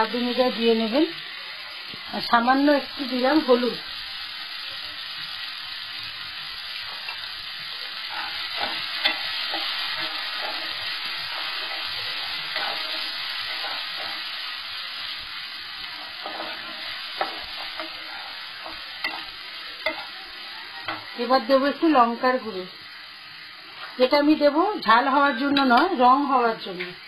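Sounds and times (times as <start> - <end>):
vegetables sizzling in hot oil: 0.0 - 27.0.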